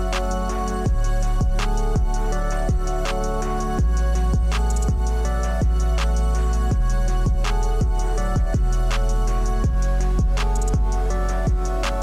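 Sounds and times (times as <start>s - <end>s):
music with steady drum beat: 0.0s - 12.0s.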